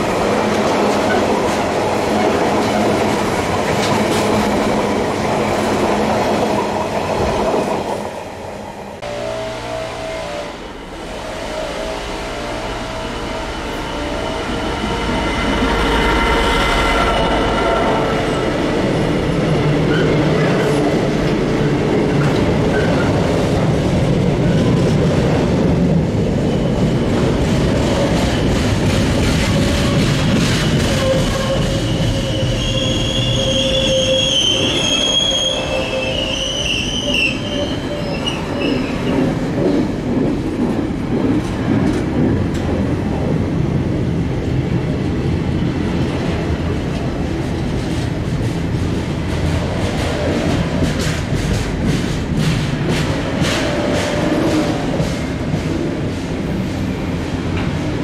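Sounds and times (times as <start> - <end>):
diesel locomotive engine: 0.0 - 58.0
freight train rumbling past: 0.0 - 58.0.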